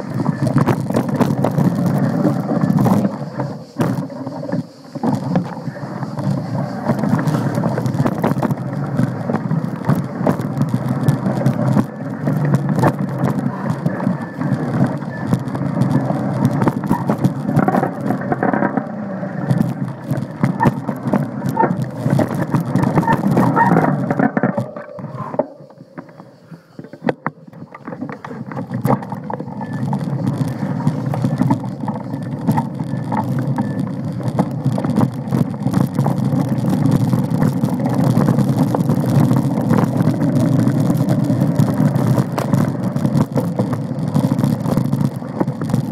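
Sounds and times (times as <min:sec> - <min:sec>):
bike knocks and rattles: 0:00.0 - 0:45.9
bike tyres rumbling on dirt: 0:00.0 - 0:45.9.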